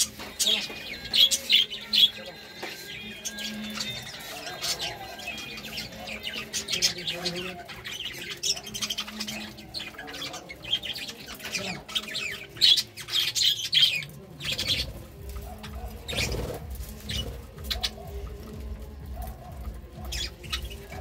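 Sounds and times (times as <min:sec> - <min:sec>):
budgerigars chattering: 0:00.0 - 0:21.0.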